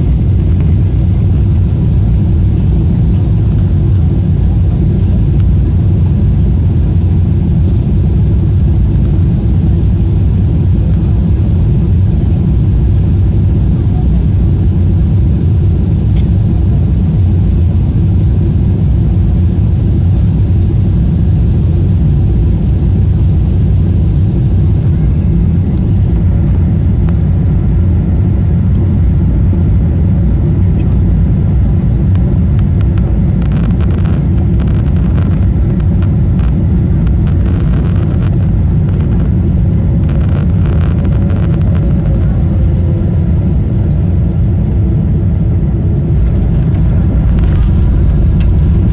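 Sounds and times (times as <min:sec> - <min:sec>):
airliner cabin roar: 0:00.0 - 0:48.9.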